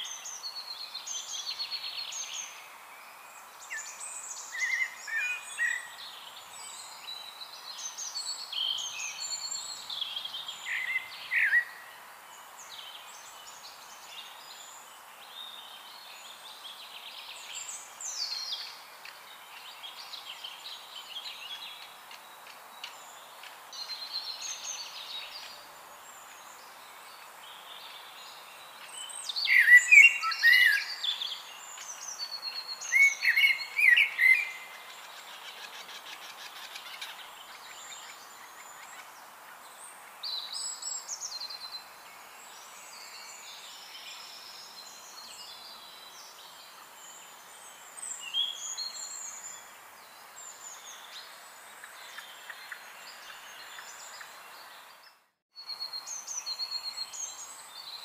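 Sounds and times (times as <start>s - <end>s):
songbirds singing: 0.0s - 58.0s
steady outdoor hiss: 0.0s - 58.0s.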